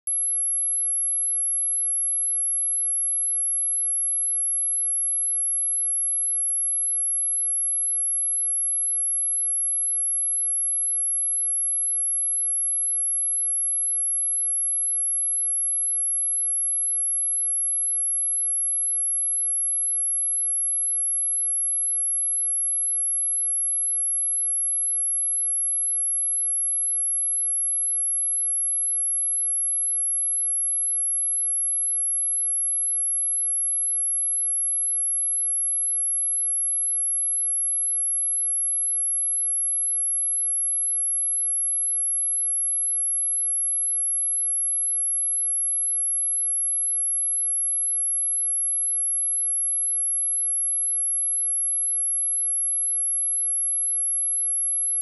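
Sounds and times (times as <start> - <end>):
high-pitched sine test tone: 0.0 - 55.0.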